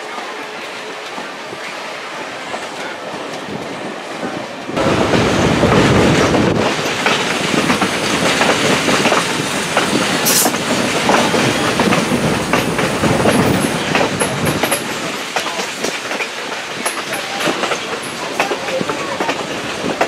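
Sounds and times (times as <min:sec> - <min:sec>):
rail clicks and clacks: 0:00.0 - 0:20.0
train wheels rumbling on rails: 0:00.0 - 0:20.0.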